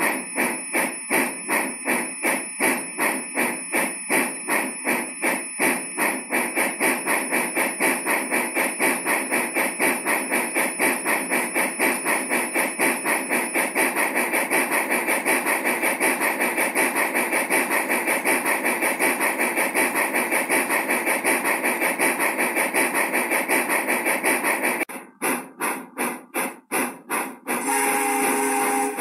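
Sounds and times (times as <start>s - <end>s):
rapid even clicking: 0.0s - 27.6s.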